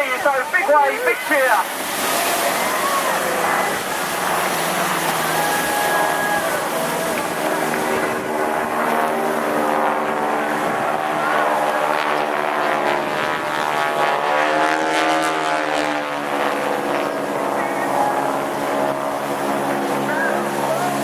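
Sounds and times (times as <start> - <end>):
biplane propeller engine droning: 0.0 - 21.0.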